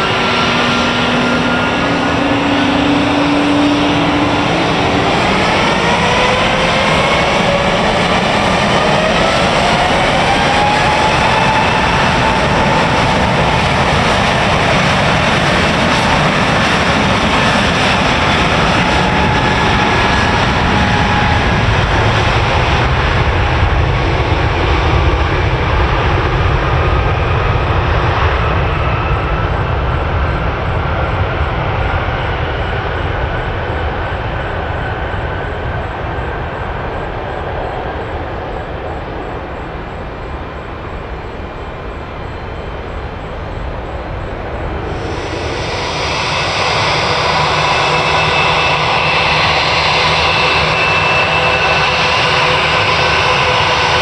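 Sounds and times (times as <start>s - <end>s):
airliner engines rushing: 0.0s - 54.0s
high engine whine: 0.0s - 54.0s.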